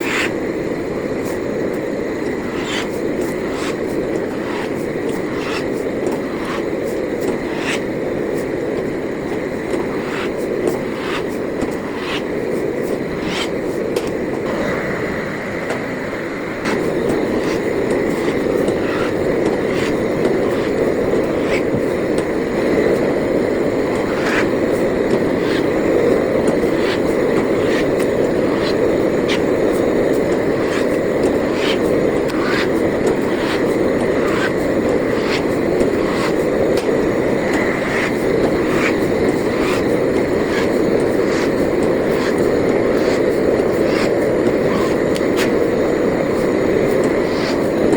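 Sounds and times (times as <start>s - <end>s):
machine mechanical hum: 0.0s - 47.9s.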